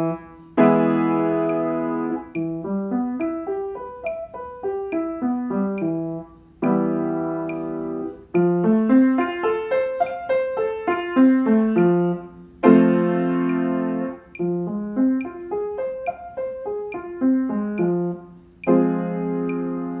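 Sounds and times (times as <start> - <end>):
piano arpeggios: 0.0 - 20.0.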